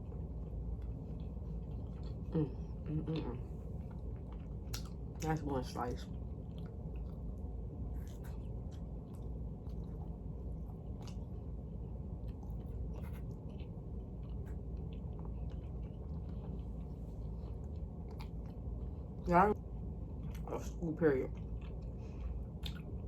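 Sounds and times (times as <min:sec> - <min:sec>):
low hum: 0:00.0 - 0:23.0
person chewing: 0:00.4 - 0:05.3, 0:06.1 - 0:19.0, 0:21.4 - 0:23.0.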